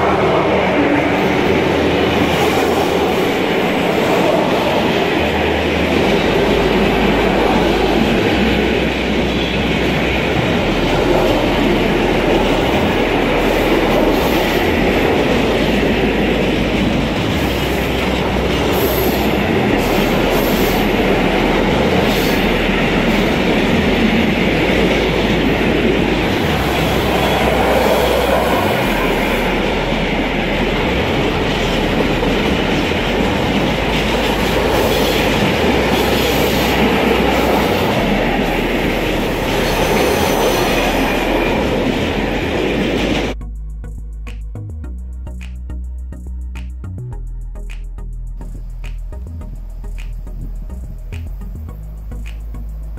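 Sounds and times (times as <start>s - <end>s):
train wheels rumbling on rails: 0.0s - 43.4s, 45.3s - 52.9s.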